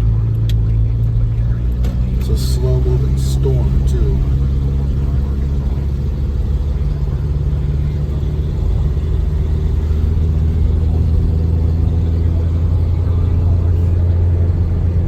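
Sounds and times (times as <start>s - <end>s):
car engine and road noise drone: 0.0s - 15.0s.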